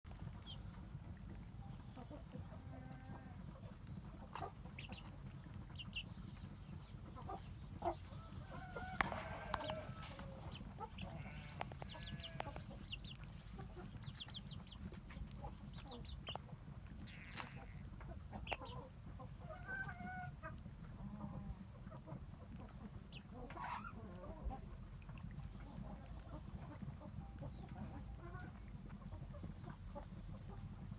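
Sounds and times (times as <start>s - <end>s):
chickens clucking: 0.1s - 30.9s.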